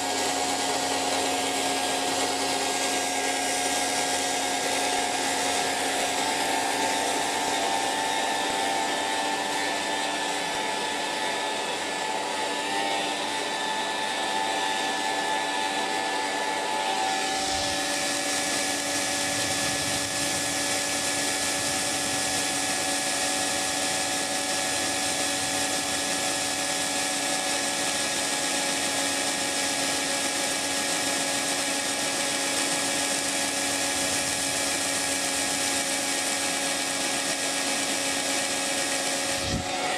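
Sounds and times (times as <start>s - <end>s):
hairdryer blowing air: 0.0s - 39.9s.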